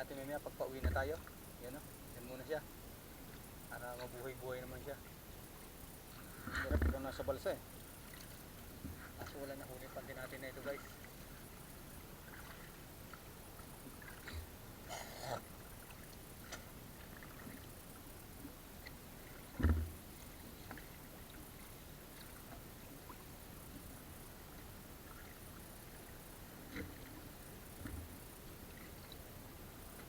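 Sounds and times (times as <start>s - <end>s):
faint water around raft: 0.0s - 30.0s.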